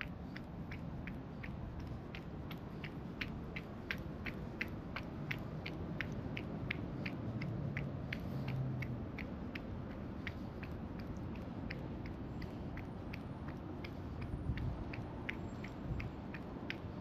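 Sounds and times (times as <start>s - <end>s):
running footsteps on pavement: 0.0s - 17.0s.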